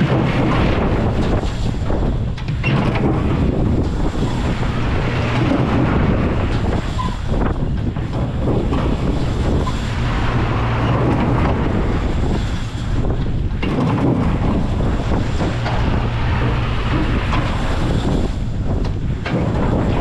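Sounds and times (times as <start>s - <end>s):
ride mechanical hum: 0.0s - 20.0s
wind buffeting microphone: 0.0s - 20.0s.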